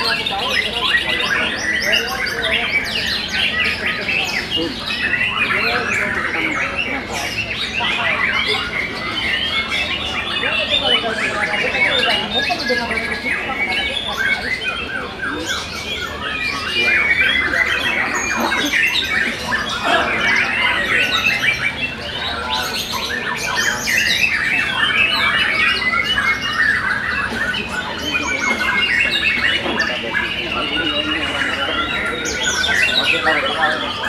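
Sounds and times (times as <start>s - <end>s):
birds singing: 0.0s - 34.0s.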